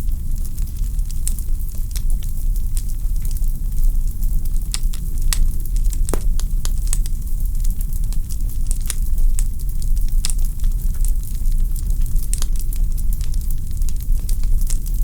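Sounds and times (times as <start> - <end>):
low fire rumble: 0.0 - 15.0
wood fire crackling and popping: 0.2 - 15.0.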